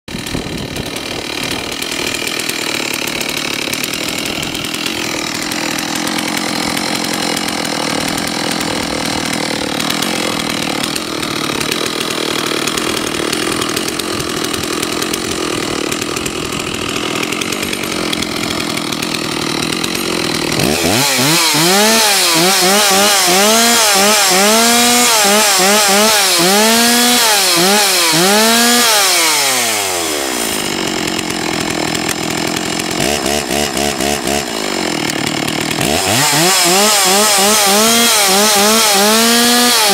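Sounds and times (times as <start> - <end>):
chainsaw idling and revving: 0.1 - 39.9.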